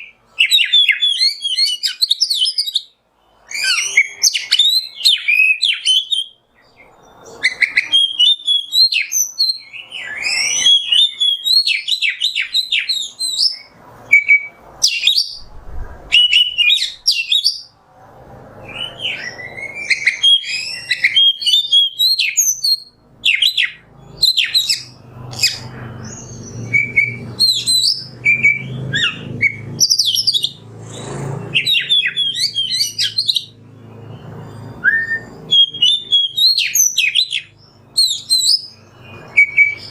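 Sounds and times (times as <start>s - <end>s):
songbird chirping and whistling: 0.0s - 17.8s, 18.6s - 39.9s.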